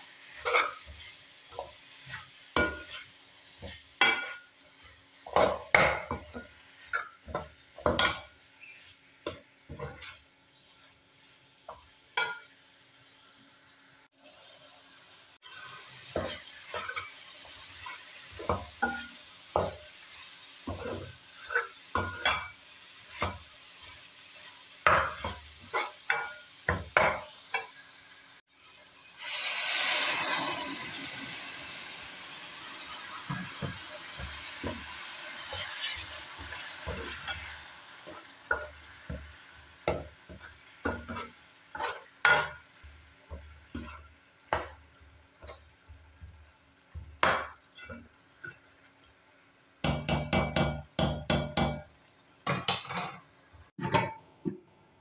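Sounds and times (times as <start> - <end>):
meat sizzling: 0.0 - 53.8.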